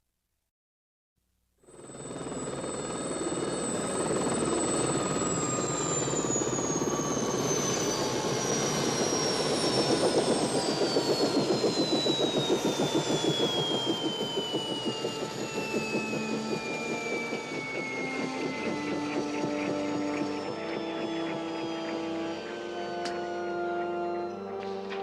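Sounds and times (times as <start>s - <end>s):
helicopter rotor beat: 1.6s - 25.0s
helicopter turbine whine: 1.6s - 25.0s.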